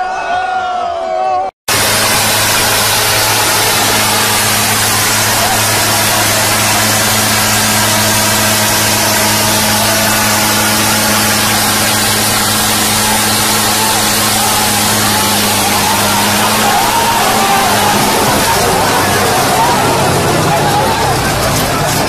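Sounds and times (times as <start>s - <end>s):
diesel tractor engines droning: 1.7s - 22.0s
loud rushing noise: 1.7s - 22.0s.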